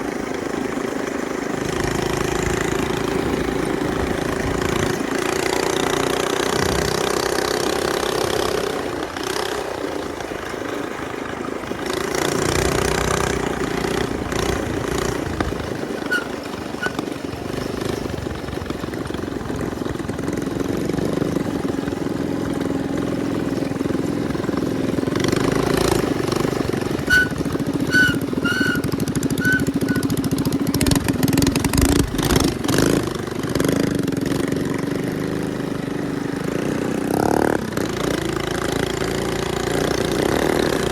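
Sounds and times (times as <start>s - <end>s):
minibike engine running: 0.0s - 40.9s.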